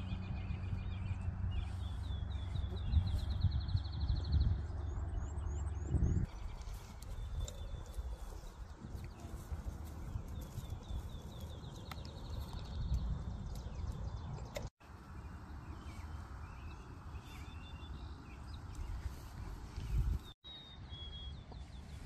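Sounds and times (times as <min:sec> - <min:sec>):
small birds trilling and chirping: 0:00.0 - 0:22.0
wind buffeting microphone: 0:00.0 - 0:22.0.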